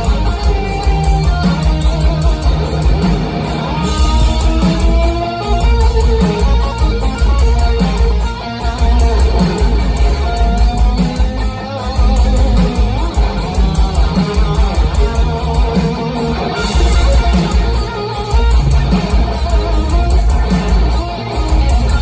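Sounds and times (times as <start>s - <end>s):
bass guitar: 0.0s - 22.0s
drums with cymbal strokes: 0.0s - 22.0s
electric guitar solo: 0.0s - 22.0s.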